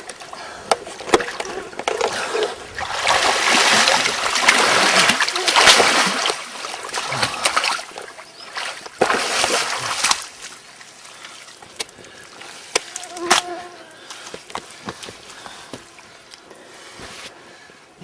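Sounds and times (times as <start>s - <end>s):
water splashing and sloshing: 0.0s - 17.4s.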